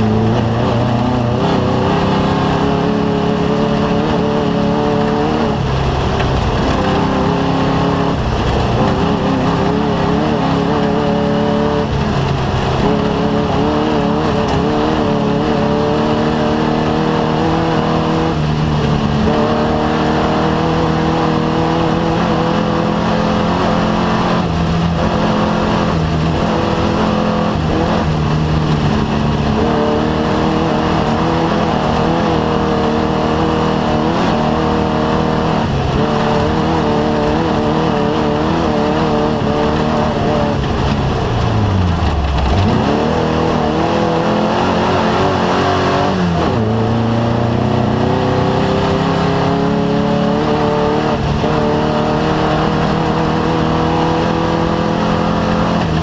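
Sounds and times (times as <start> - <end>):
race vehicle engine revving: 0.0 - 56.0.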